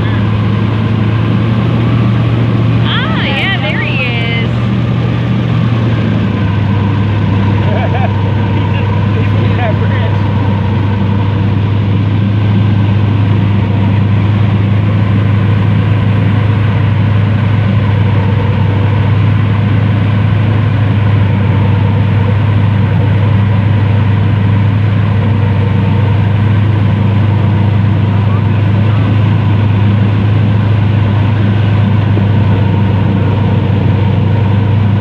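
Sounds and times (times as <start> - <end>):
airboat engine droning: 0.0 - 35.0.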